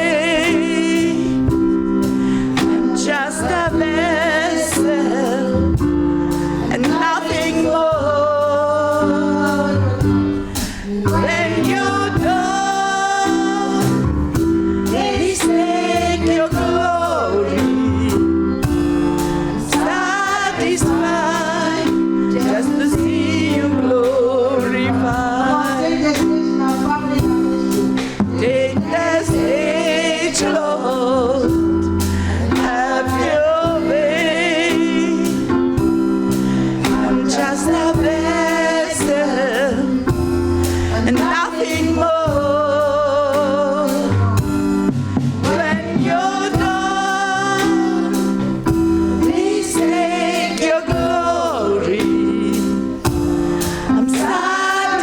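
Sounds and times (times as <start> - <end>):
bass line: 0.0 - 55.0
drums: 0.0 - 55.0
person singing with vibrato: 0.0 - 55.0
sustained chords: 0.0 - 55.0.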